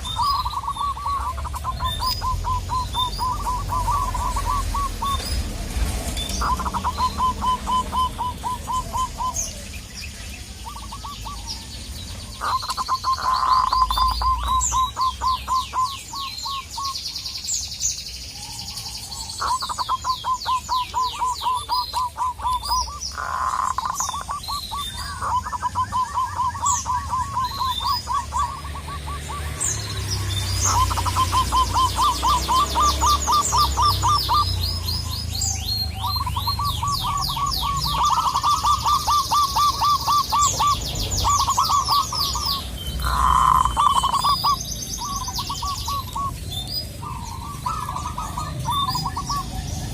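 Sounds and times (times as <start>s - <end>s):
doves cooing rapidly: 0.0s - 17.4s, 18.3s - 49.9s
small birds chirping: 0.0s - 49.9s.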